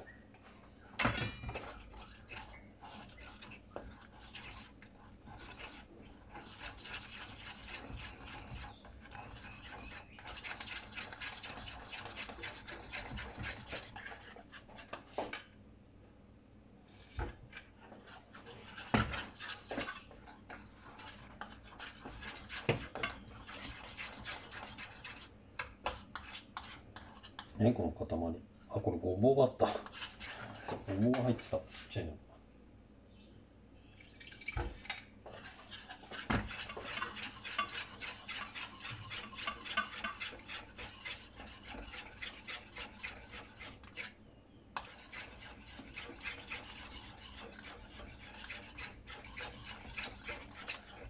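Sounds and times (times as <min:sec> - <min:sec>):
whisk scraping in a steel bowl: 0:00.8 - 0:15.5, 0:16.9 - 0:27.6, 0:28.6 - 0:32.1, 0:34.9 - 0:44.2, 0:44.8 - 0:51.0.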